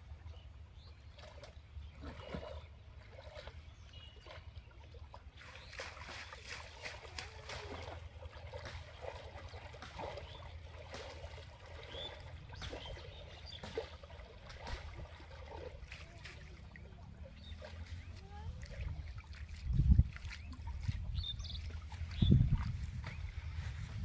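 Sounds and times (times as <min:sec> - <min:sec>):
water drips and sloshes: 0:00.0 - 0:24.0
water trickling and splashing: 0:00.0 - 0:24.0.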